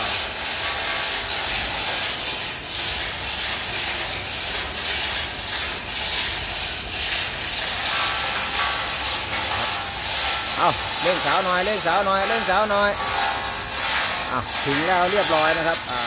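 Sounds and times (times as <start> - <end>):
chain hoist ratchet clicking: 0.0 - 16.0.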